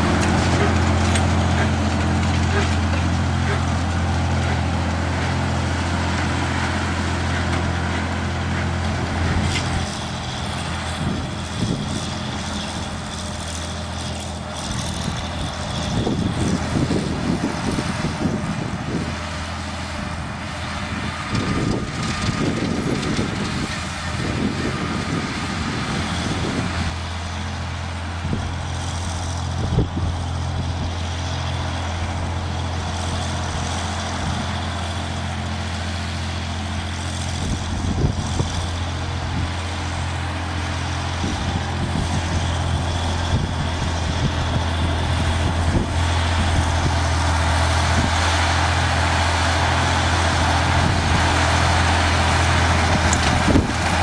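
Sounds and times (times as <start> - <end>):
rough uneven mower noise: 0.0 - 54.0
tractor engine running: 0.0 - 54.0.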